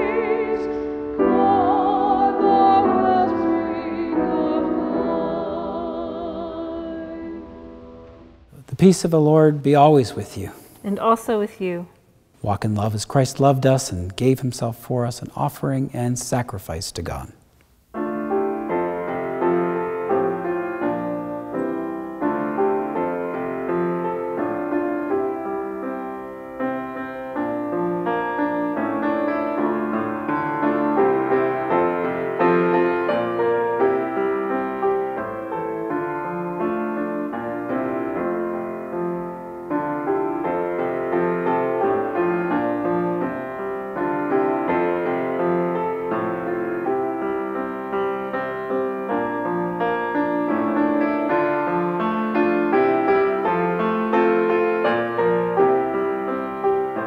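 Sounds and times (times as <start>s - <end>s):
solo piano music: 0.0s - 10.5s, 17.9s - 57.0s.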